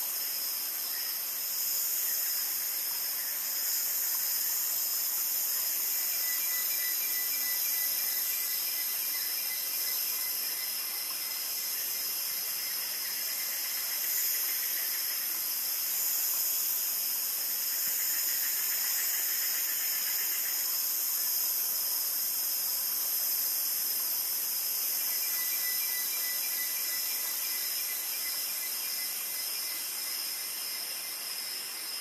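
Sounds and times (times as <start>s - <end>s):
faint insect trill: 0.0s - 32.0s
insect chorus hissing drone: 0.0s - 32.0s.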